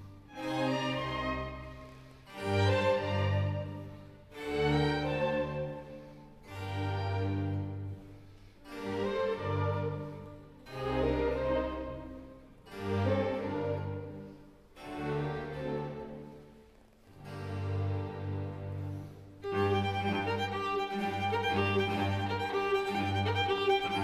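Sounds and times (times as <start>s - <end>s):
orchestral bowed strings: 0.0s - 24.0s.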